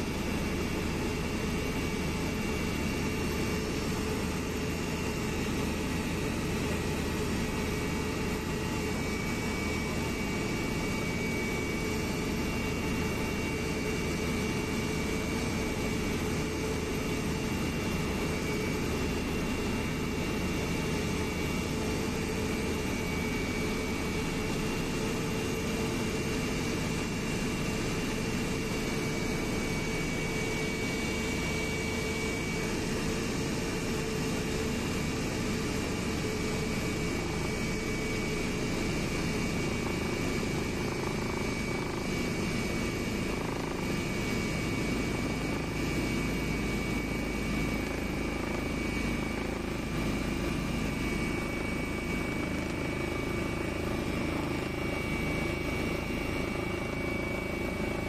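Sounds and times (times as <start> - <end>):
aircraft engine drone: 0.0 - 58.0
faint whining tones: 0.0 - 58.0.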